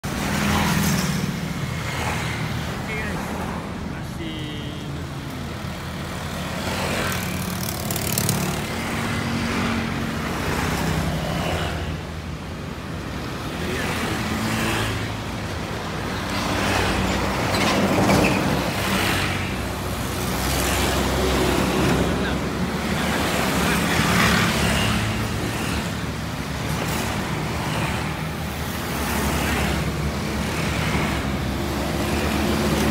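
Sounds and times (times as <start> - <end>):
steady low traffic hum: 0.0 - 32.9
vehicles driving by: 0.0 - 32.9.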